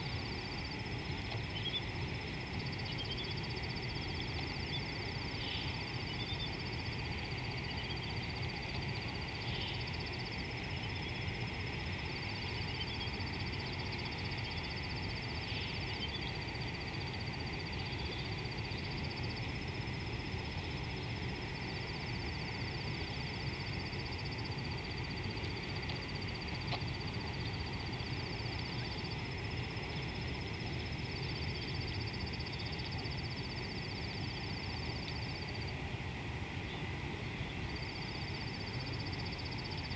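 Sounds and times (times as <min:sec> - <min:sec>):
constant high hiss: 0:00.0 - 0:39.9.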